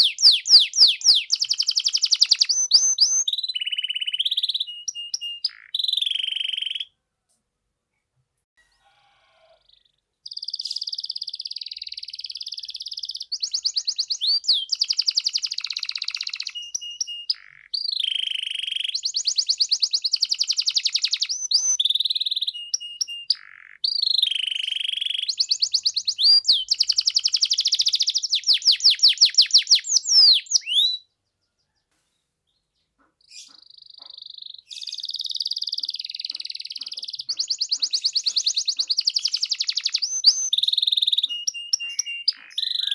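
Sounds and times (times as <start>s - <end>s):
canary singing trills: 0.0s - 6.9s, 8.6s - 31.9s, 32.5s - 42.9s.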